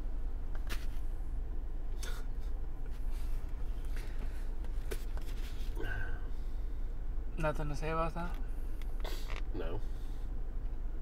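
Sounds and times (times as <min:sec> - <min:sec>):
car interior hum: 0:00.0 - 0:11.0.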